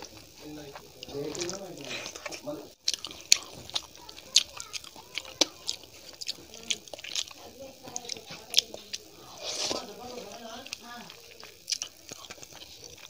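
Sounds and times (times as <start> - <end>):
close chewing with mouth clicks: 0.0 - 13.0.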